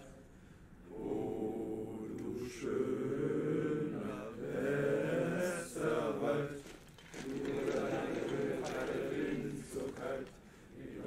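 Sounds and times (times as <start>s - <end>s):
men singing in unison: 0.9s - 11.0s.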